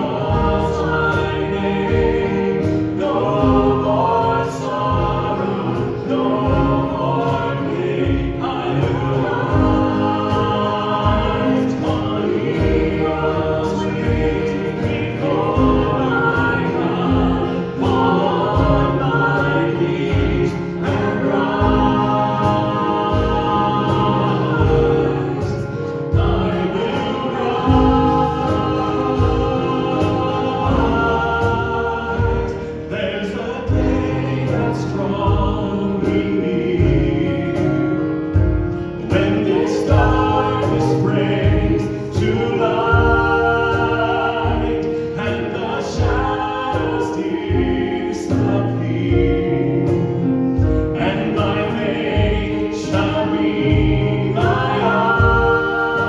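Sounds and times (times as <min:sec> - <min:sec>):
band and congregation singing: 0:00.0 - 0:56.0
steady drum beat: 0:00.0 - 0:56.0
sustained chords: 0:00.0 - 0:56.0.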